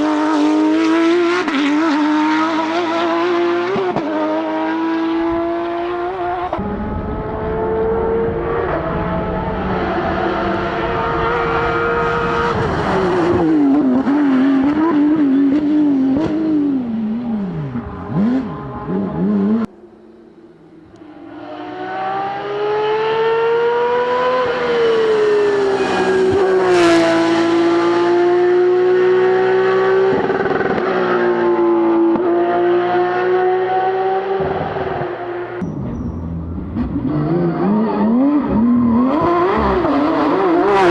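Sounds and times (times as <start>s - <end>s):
rally car engine revving: 0.0s - 19.8s, 20.9s - 40.9s.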